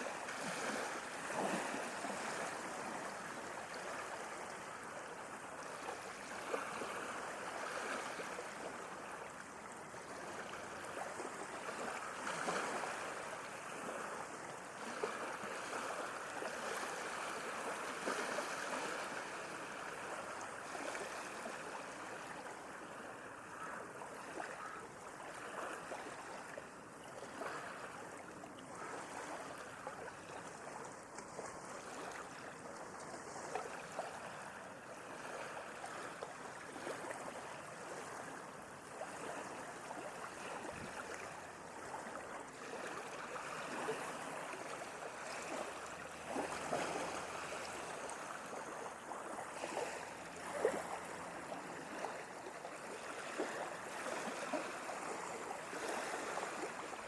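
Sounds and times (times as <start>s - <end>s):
sea waves lapping and splashing: 0.0s - 57.0s.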